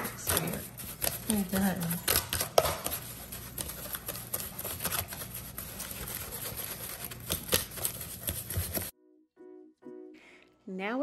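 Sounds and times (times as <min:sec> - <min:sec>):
fork scraping a mixing bowl: 0:00.0 - 0:08.9.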